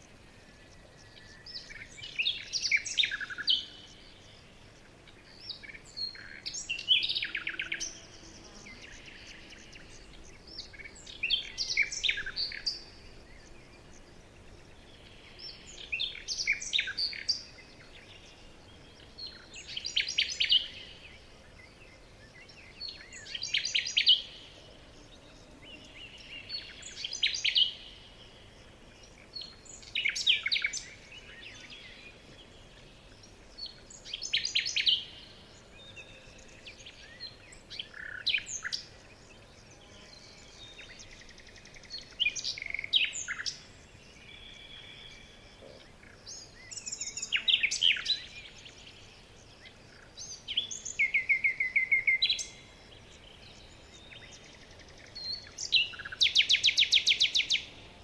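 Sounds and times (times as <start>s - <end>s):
faint background hiss: 0.0s - 58.0s
songbird chirps and trills: 0.0s - 58.0s.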